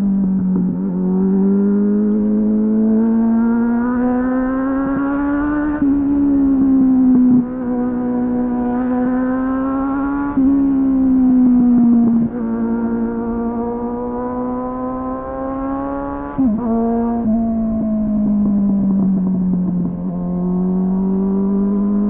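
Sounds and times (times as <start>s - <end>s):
motorcycle engine running: 0.0s - 15.4s, 16.2s - 22.0s.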